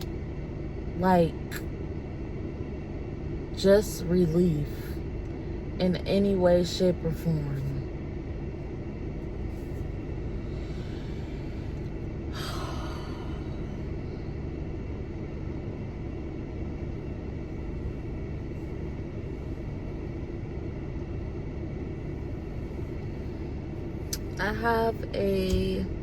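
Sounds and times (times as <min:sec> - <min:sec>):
faint hum: 0:00.0 - 0:26.0
low rumble: 0:00.0 - 0:26.0.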